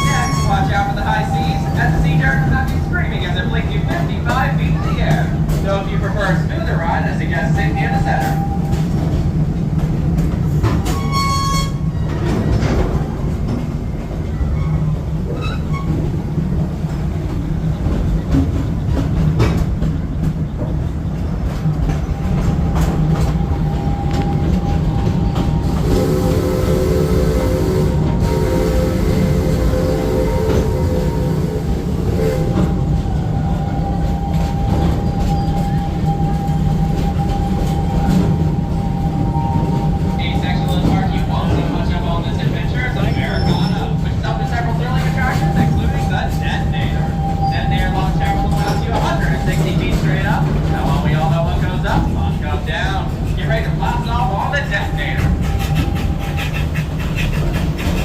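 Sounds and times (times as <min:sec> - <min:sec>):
passenger train rumbling on track: 0:00.0 - 0:58.0.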